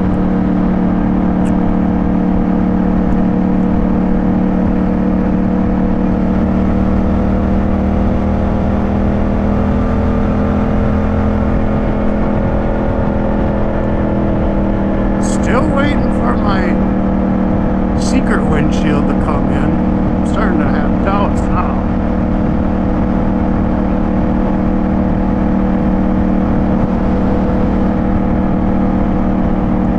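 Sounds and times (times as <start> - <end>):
motorcycle engine running: 0.0 - 29.9
wind rush: 0.0 - 29.9.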